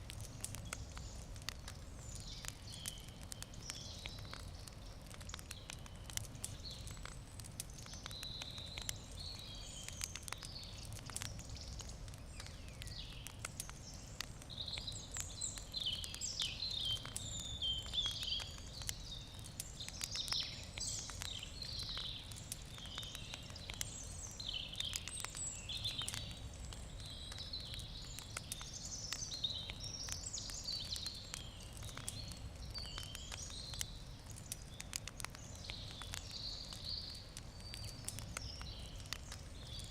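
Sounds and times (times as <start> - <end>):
campfire crackling and popping: 0.0 - 39.9
birds chirping: 7.8 - 39.9.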